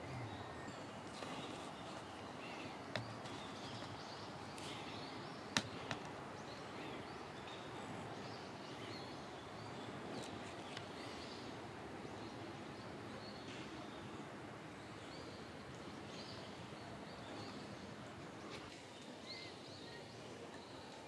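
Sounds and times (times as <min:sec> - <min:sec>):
small birds chirping: 0:00.0 - 0:21.0
steady background noise: 0:00.0 - 0:21.0.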